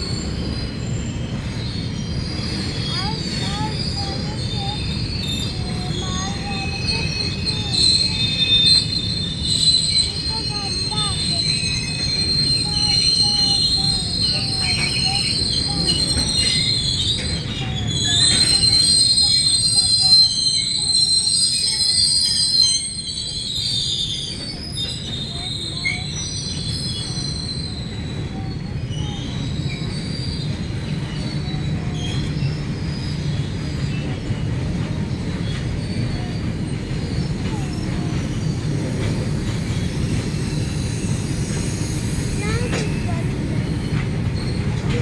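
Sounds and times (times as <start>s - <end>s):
freight wagons rumbling on rails: 0.0s - 45.0s
wheel squeal: 0.0s - 45.0s.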